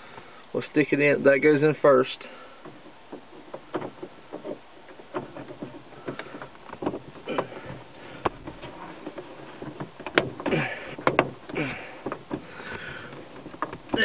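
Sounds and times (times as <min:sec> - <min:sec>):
plastic clicks and knocks: 0:02.6 - 0:14.0
plastic rubbing and scraping: 0:02.6 - 0:14.0.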